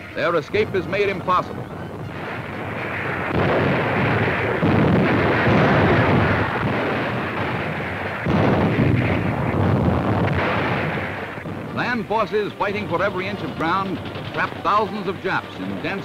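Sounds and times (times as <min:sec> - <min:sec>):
explosions and gunfire: 0:00.6 - 0:16.0
loud blast: 0:01.0 - 0:16.0.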